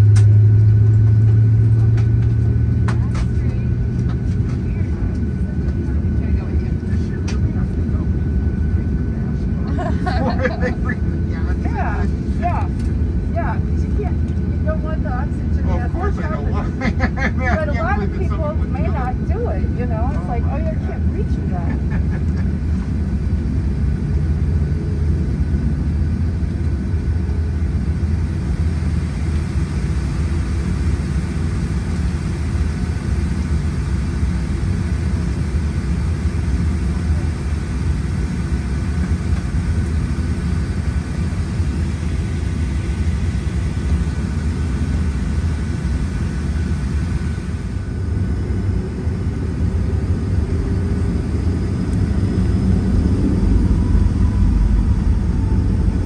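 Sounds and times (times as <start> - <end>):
faint engine whine: 0.0 - 56.0
jet engines low rumble: 0.0 - 56.0.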